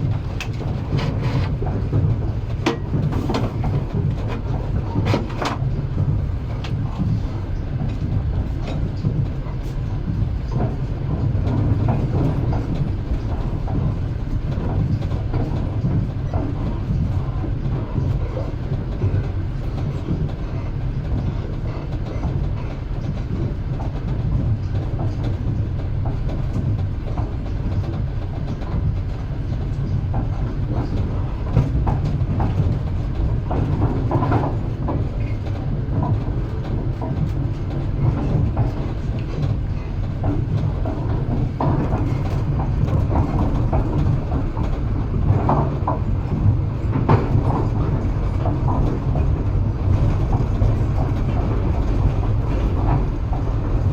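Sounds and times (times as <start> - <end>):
train rumbling on track: 0.0 - 53.9
wheels clickety-clack: 0.0 - 53.9.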